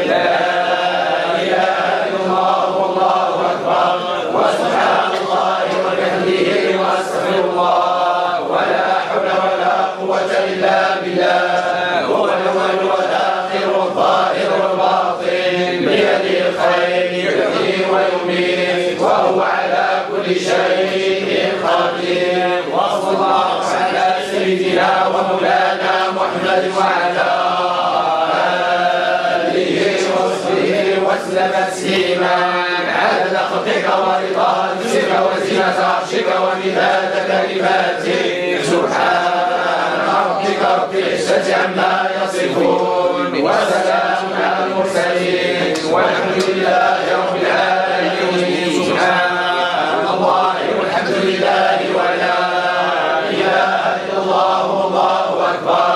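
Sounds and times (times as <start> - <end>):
men chanting in unison: 0.0 - 55.9.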